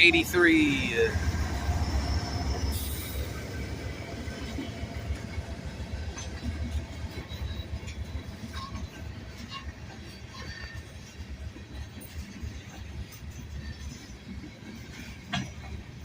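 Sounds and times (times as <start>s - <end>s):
train cars rumbling past: 0.0s - 16.0s
train clanks: 0.0s - 16.0s.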